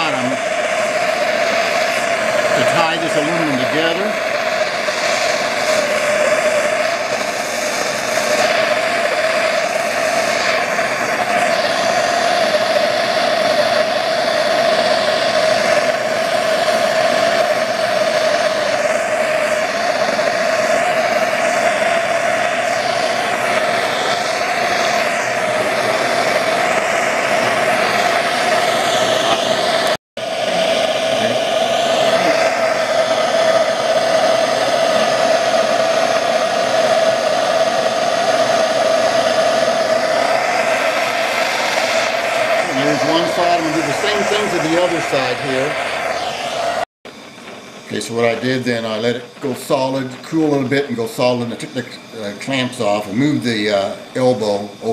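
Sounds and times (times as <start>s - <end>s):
propane torch flame roaring: 0.0s - 54.9s.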